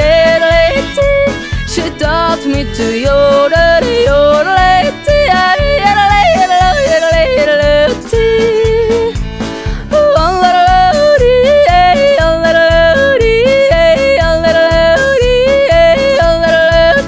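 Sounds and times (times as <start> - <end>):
person yodeling: 0.0 - 9.1, 9.9 - 17.0
bouncy musical accompaniment: 0.0 - 17.0.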